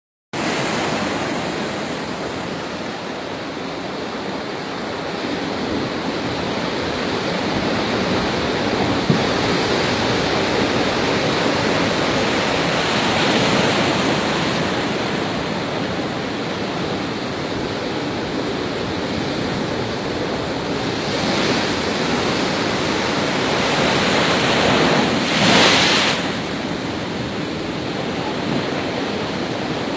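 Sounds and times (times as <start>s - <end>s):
strong wind gusts: 0.4s - 29.9s.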